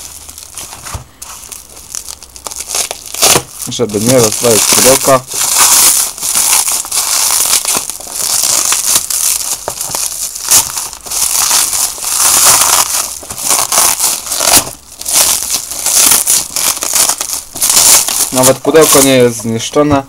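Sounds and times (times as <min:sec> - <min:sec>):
bubble wrap crackling: 0:00.0 - 0:19.9.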